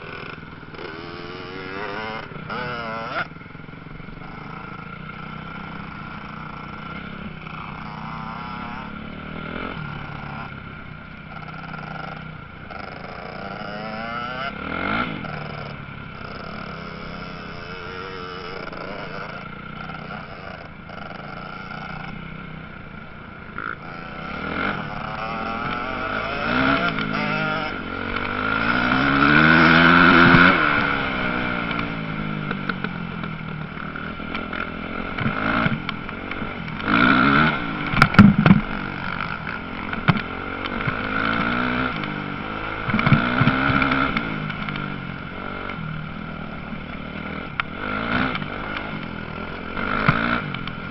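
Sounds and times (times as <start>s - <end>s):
motocross bikes revving: 0.0s - 50.9s
motorbike passing close: 0.0s - 50.9s.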